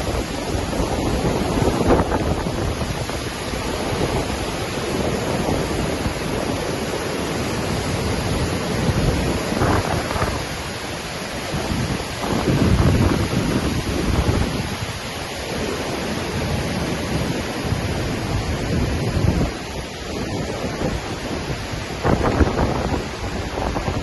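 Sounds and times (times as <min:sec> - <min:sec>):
waterfall roaring: 0:00.0 - 0:24.0
wind buffeting microphone: 0:00.0 - 0:24.0.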